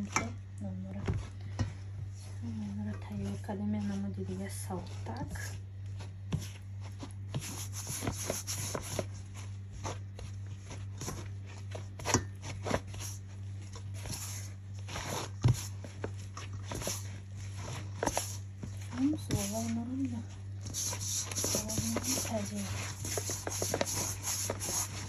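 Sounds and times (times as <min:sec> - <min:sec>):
dough squelching in bowl: 0:00.0 - 0:25.0
steady low hum: 0:00.0 - 0:25.0.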